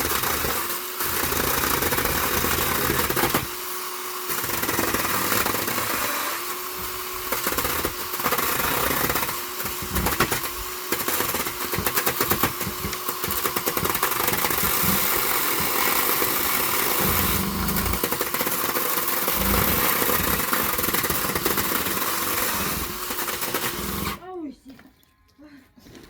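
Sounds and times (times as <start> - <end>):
power screwdriver rattling: 0.0 - 24.2.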